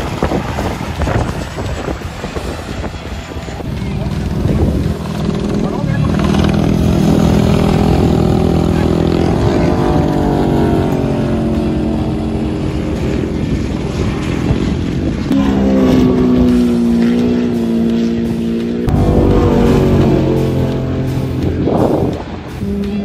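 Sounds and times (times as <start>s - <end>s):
race vehicle engines passing: 0.0s - 23.0s.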